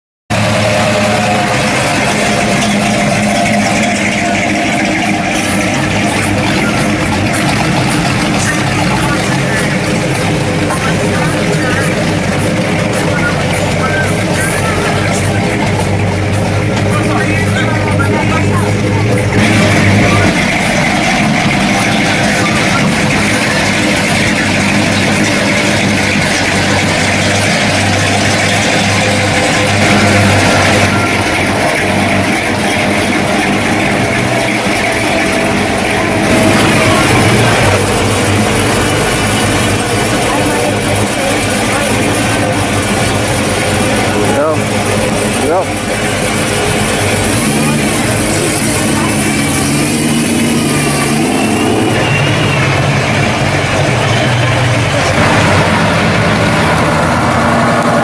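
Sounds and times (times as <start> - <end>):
car engine low rumble: 0.3 - 58.0.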